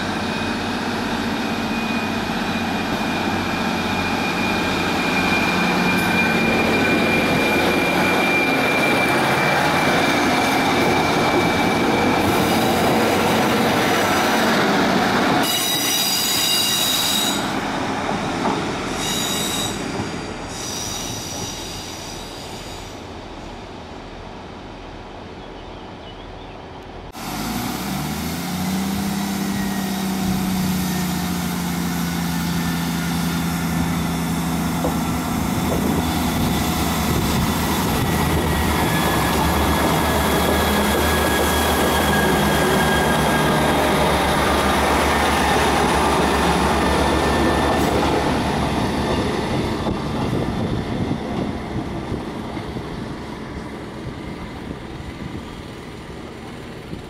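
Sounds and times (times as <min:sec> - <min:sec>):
passenger train running past: 0:00.0 - 0:57.0.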